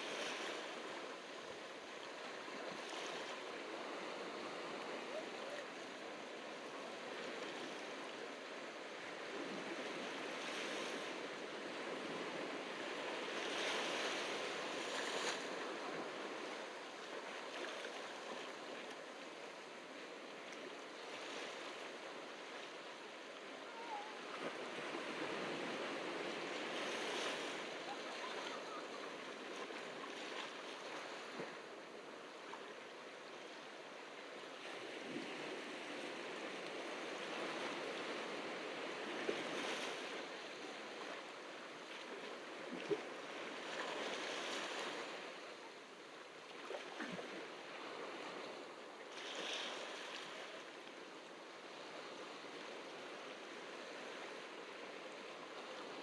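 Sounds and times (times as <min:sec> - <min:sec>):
ocean waves on beach: 0:00.0 - 0:56.0.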